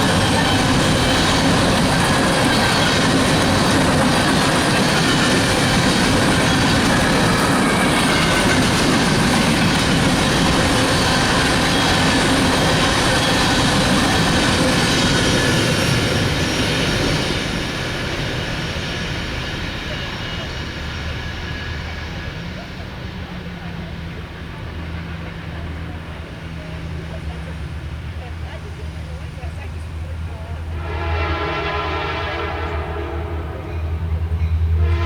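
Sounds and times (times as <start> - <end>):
freight cars rolling on rails: 0.0 - 35.0.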